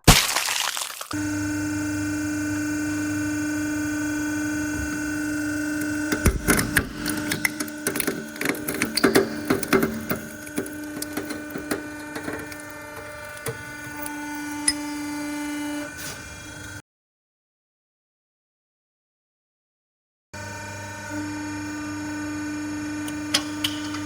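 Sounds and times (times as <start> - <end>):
hydraulic pump humming: 1.2 - 16.8, 20.4 - 24.0.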